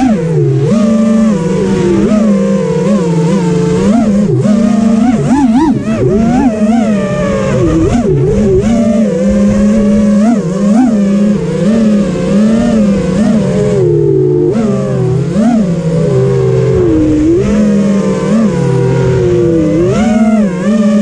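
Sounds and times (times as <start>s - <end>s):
drone motors buzzing whine: 0.0s - 21.0s.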